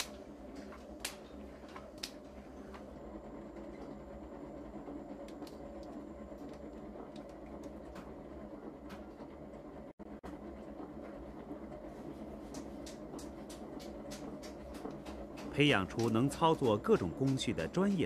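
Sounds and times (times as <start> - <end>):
low workshop rumble: 0.0 - 18.0.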